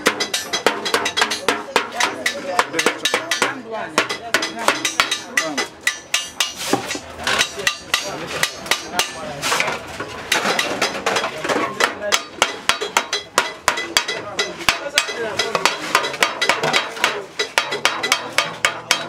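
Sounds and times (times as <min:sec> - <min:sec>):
hammer tapping sheet metal: 0:00.0 - 0:19.0.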